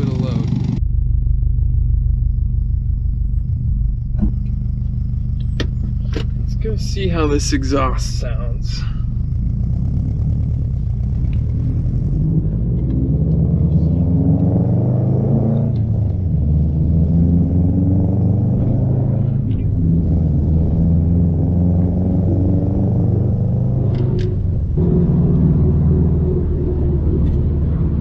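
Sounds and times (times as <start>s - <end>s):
car engine accelerating through gears: 2.2s - 28.0s.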